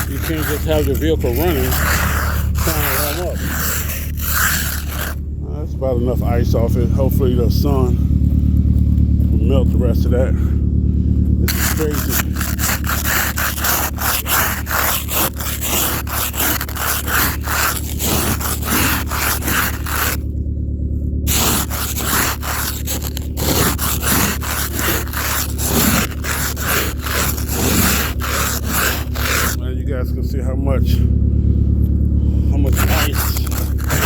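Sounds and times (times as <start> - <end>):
ice scraper scraping car ice: 0.0 - 5.2, 5.8 - 8.0, 8.6 - 10.5, 11.4 - 20.4, 21.3 - 29.7, 32.4 - 34.0.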